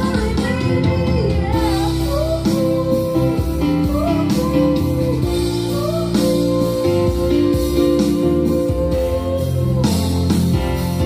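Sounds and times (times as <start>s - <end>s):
guitar backing track: 0.0s - 11.0s
person singing into microphone: 0.0s - 11.0s.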